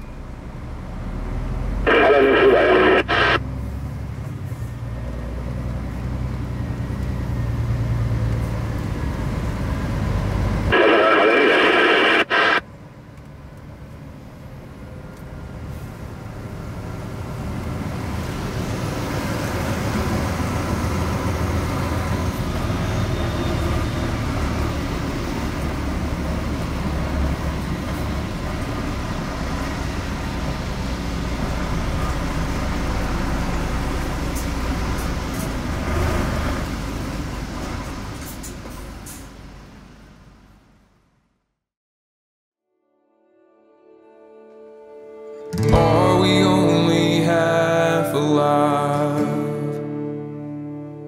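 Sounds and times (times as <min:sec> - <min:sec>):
road noise: 0:00.0 - 0:41.6, 0:44.9 - 0:51.0.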